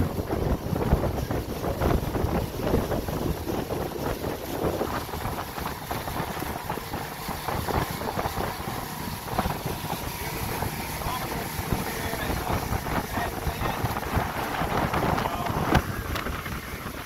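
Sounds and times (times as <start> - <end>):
boat motor running: 0.0 - 17.0
rush of water: 0.0 - 17.0
wind buffeting microphone: 0.0 - 17.0.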